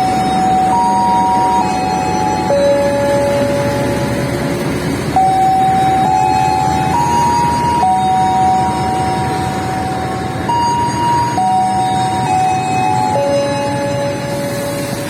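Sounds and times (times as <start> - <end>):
electronic melody over loudspeaker: 0.0 - 15.0
steady low rumble: 0.0 - 15.0.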